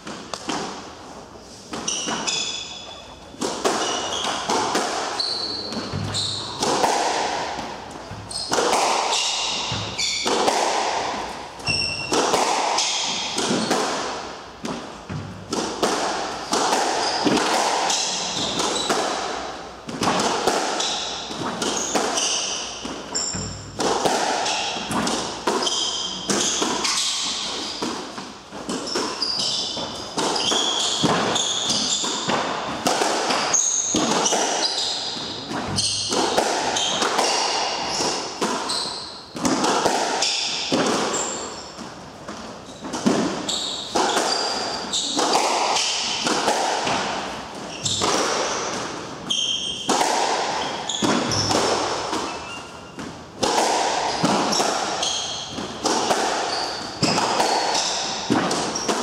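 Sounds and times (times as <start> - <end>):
squash ball hits: 1.7 - 59.0
sneakers squeaking on hardwood: 1.8 - 13.8, 16.4 - 28.0, 28.6 - 39.6, 40.2 - 41.8, 42.6 - 46.3, 46.9 - 59.0.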